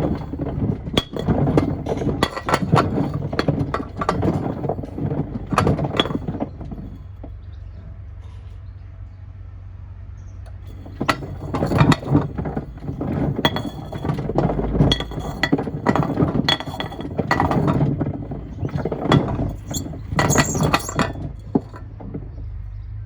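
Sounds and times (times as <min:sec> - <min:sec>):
stones and wood clattering in drum: 0:00.0 - 0:07.4, 0:10.5 - 0:22.6.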